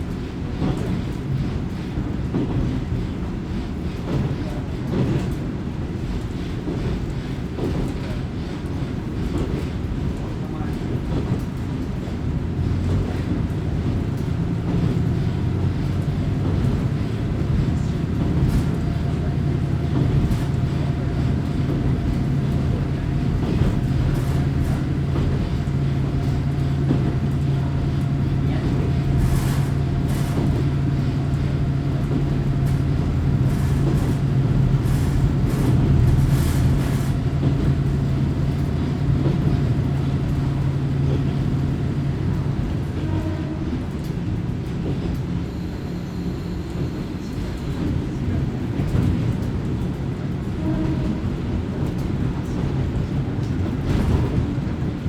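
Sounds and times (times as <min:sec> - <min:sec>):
diesel railcar engine drone: 0:00.0 - 0:55.0
train track noise: 0:00.0 - 0:55.0.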